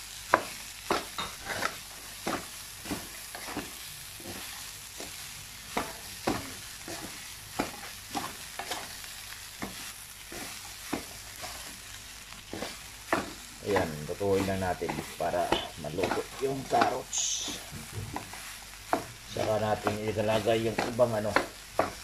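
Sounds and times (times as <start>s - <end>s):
food sizzling in pan: 0.0s - 22.0s
wooden spatula scraping pan: 0.4s - 9.0s, 9.6s - 11.9s, 12.5s - 22.0s.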